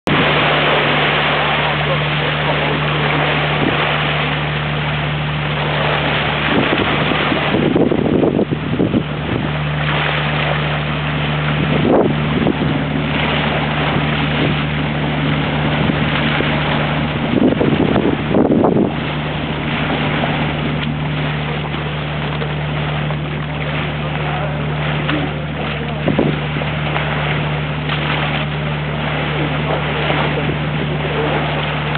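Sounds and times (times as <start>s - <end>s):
boat engine humming: 0.0s - 31.9s
sea water rushing: 0.0s - 31.9s
wind on microphone: 0.0s - 31.9s.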